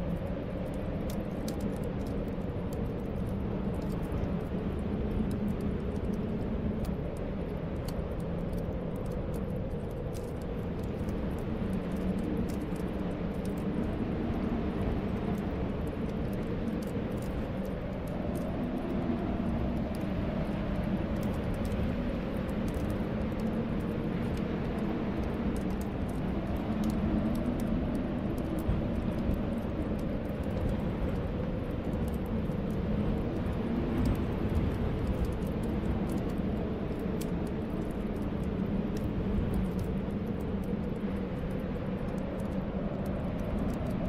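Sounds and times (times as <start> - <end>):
wind whistling: 0.0 - 44.0
wood fire crackling: 0.0 - 44.0.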